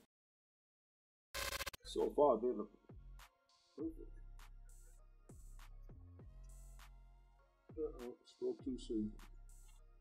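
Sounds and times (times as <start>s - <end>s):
electronic music with drum beat: 1.4s - 10.0s.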